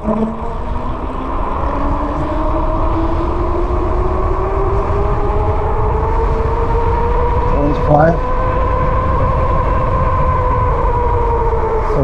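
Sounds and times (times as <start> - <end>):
electric bike motor whine: 0.0 - 12.0
wind rumble on microphone: 0.0 - 12.0.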